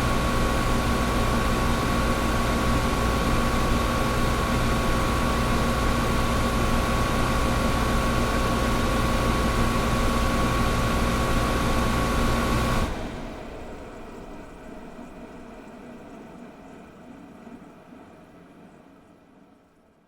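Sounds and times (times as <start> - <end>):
air conditioner humming: 0.0 - 18.6.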